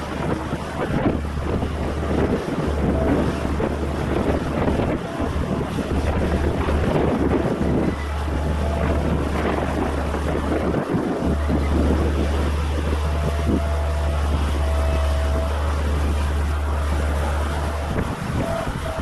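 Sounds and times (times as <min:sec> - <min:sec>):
distant earthmoving machine engine: 0:00.0 - 0:19.0
wind buffeting microphone: 0:00.0 - 0:19.0.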